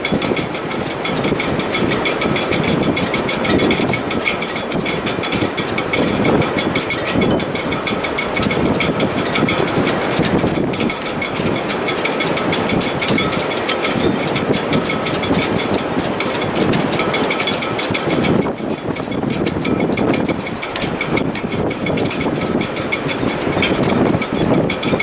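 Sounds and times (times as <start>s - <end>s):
rigging rattling: 0.0s - 25.0s
strong wind rushing: 0.0s - 25.0s.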